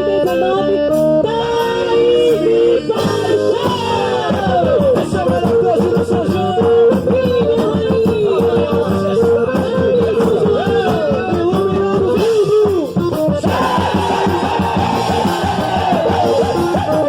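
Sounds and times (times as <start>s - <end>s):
person singing: 0.0s - 17.0s
folk dance music with steady beat: 3.0s - 17.0s.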